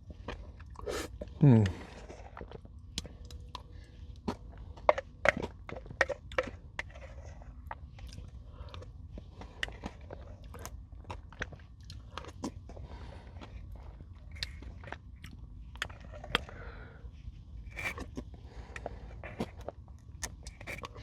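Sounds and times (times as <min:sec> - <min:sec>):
crunching and chewing: 0:00.0 - 0:21.0.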